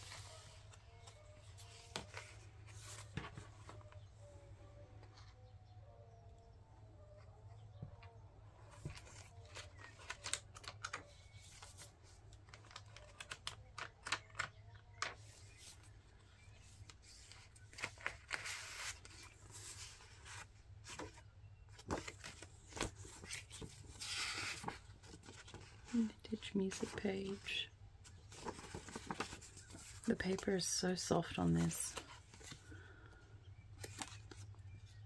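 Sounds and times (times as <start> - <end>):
paper pages rustling: 0.0 - 4.1, 8.0 - 33.1, 33.8 - 35.0.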